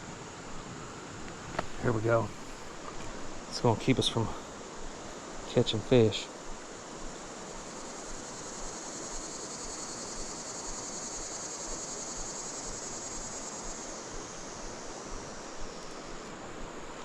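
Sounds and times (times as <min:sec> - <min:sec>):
creek water flowing: 0:00.0 - 0:17.0
insects chirping: 0:00.0 - 0:17.0.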